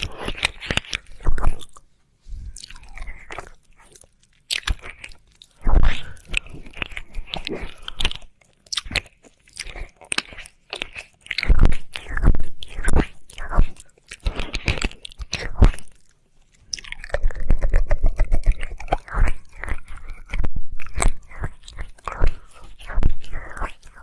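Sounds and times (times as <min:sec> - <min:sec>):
wet mouth smacking and slurps: 0:00.0 - 0:01.8, 0:02.4 - 0:24.0.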